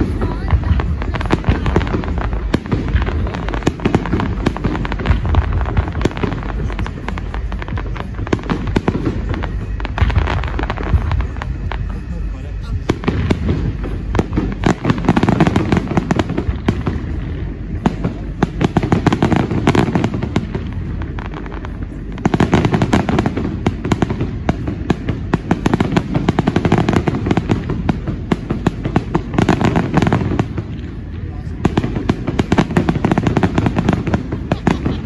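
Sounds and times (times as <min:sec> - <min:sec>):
fireworks popping and banging: 0:00.0 - 0:35.0.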